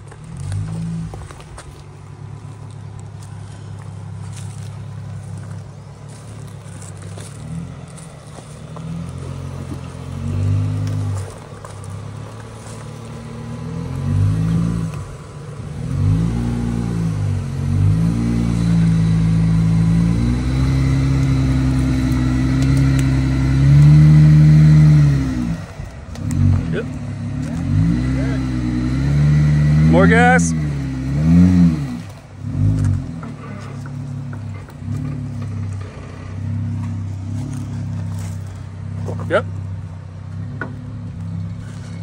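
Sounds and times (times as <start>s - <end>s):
off-road vehicle engine revving: 0.0s - 42.0s.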